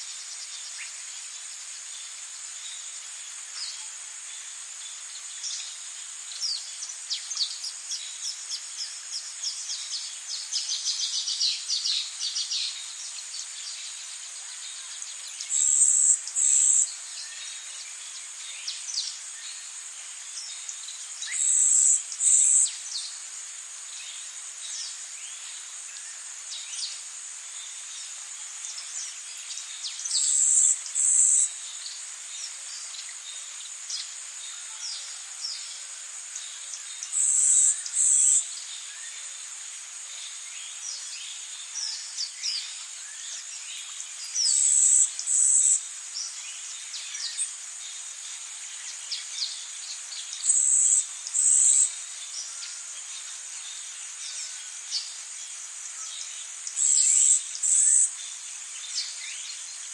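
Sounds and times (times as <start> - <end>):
crickets droning: 0.0 - 59.9.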